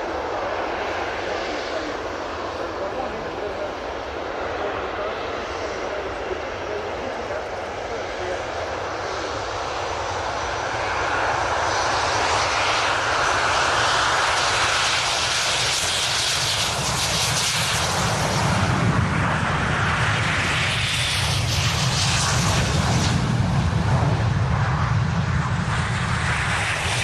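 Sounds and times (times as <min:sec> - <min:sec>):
jets flying past roaring: 0:00.0 - 0:27.0.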